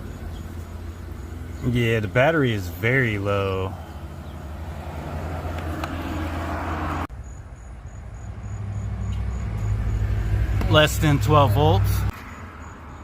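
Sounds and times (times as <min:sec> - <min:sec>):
motor vehicle humming: 0:00.0 - 0:13.0.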